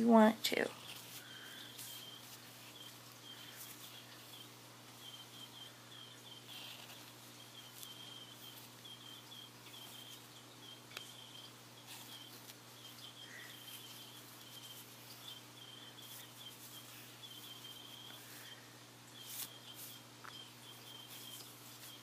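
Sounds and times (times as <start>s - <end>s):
low steady hum: 0.0s - 22.0s
insect chirping: 0.8s - 22.0s.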